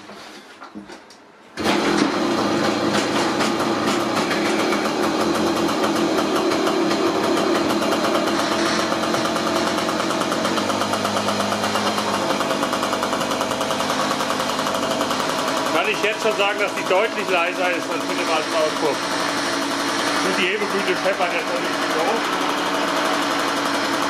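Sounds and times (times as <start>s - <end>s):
moped engine starting and running: 1.6s - 24.0s.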